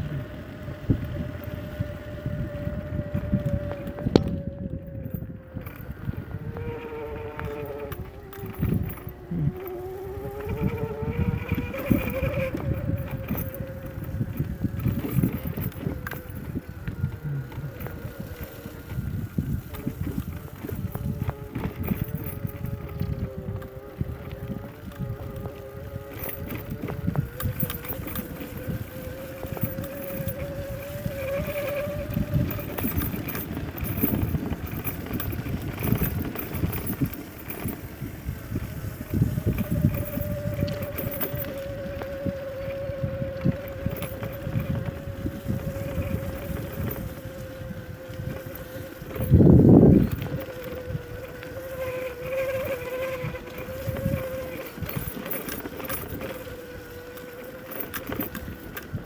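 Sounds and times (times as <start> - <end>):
bike rumbling over bumpy trail: 0.0 - 59.0
electric motor whine: 0.0 - 59.0
bike knocks and rattles: 5.0 - 59.0.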